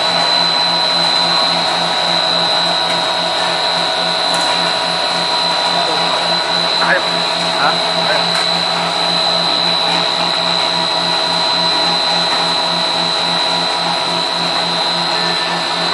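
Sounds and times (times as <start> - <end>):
high machine whine: 0.0 - 15.9
machinery drone: 0.0 - 15.9.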